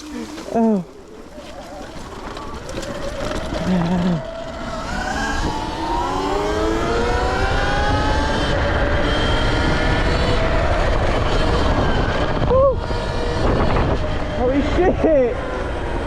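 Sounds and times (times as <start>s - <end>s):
electric motorbike motor whining: 0.0s - 16.0s
wind rumble on microphone: 2.0s - 16.0s.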